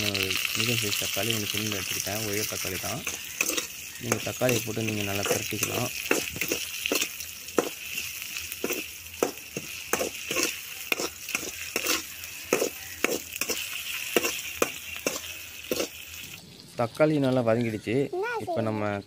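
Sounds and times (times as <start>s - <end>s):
vegetables sizzling in a pan: 0.0s - 19.0s
steel spoon scraping a pan: 1.4s - 17.8s.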